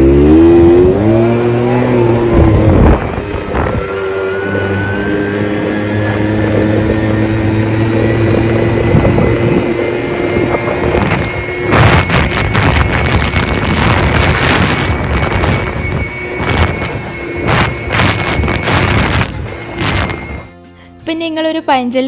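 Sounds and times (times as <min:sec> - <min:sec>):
wind buffeting microphone: 0:00.0 - 0:20.5
small motorbike engine whining: 0:00.0 - 0:20.8.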